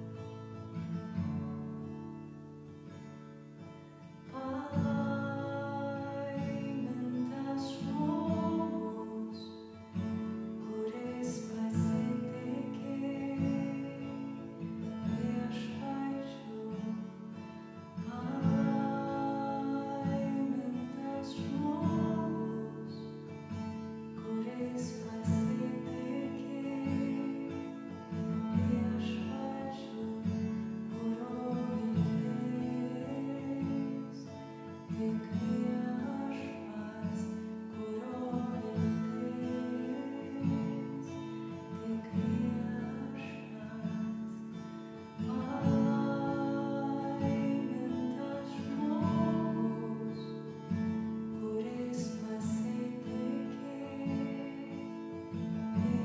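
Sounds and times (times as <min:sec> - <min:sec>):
acoustic guitar chords: 0:00.0 - 0:56.0.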